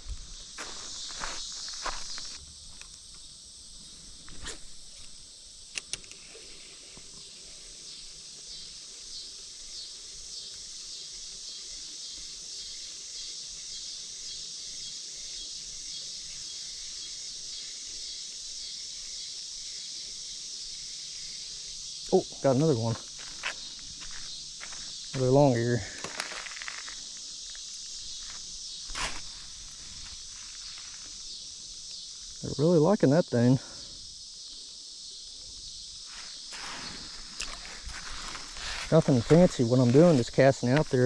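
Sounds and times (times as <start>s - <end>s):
insects chirping: 0.0s - 41.0s.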